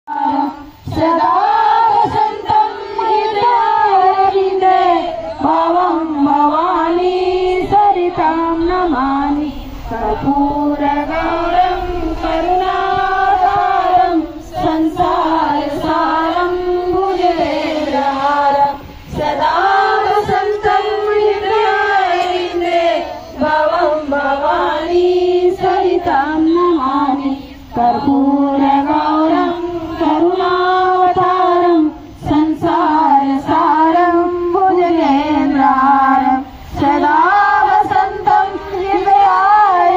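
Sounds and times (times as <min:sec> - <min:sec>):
women singing devotional song: 0:00.1 - 0:39.9.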